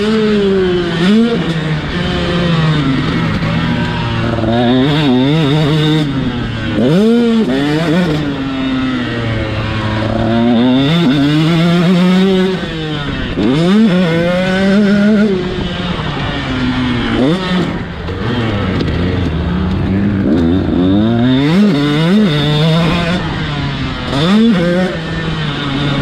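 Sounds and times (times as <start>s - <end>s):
motocross engine revving hard: 0.0s - 26.0s.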